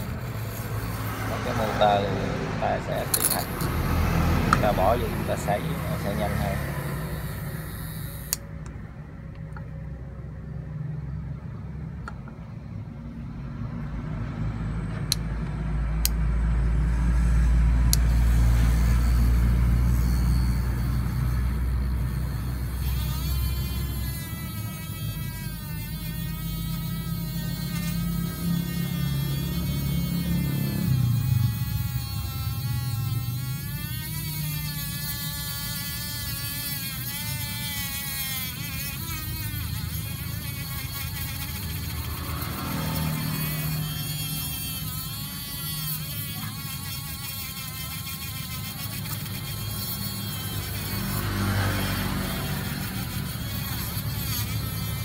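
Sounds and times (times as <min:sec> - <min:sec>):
small electric motor running: 0:00.0 - 0:08.6, 0:17.1 - 0:55.0.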